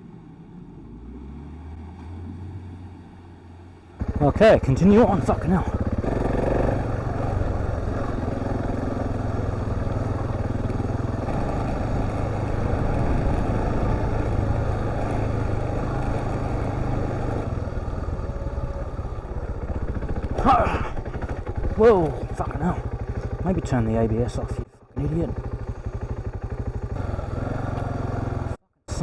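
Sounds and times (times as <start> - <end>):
motorcycle engine running: 3.9 - 29.0.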